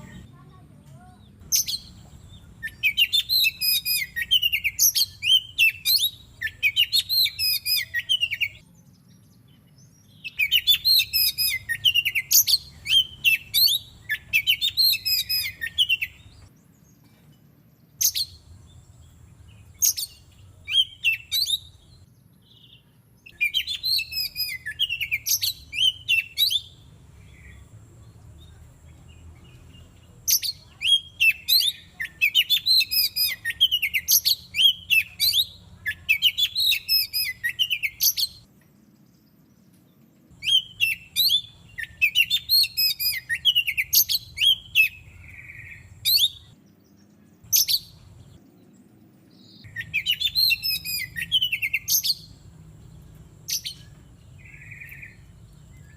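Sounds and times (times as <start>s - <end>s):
bird singing high whistled notes: 1.4s - 16.8s, 17.9s - 27.7s, 29.5s - 38.5s, 40.4s - 46.6s, 47.4s - 48.2s, 49.3s - 52.5s, 53.4s - 55.9s.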